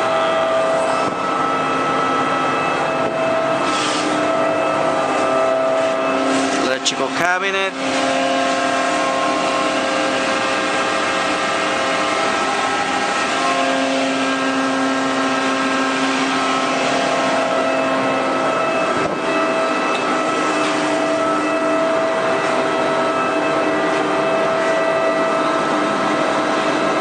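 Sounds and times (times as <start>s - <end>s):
lathe running: 0.0s - 27.0s
motors whining: 0.0s - 27.0s.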